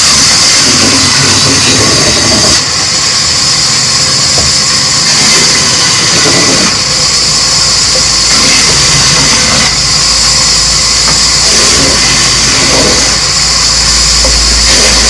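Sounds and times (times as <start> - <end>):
loud machine running: 0.0 - 15.0.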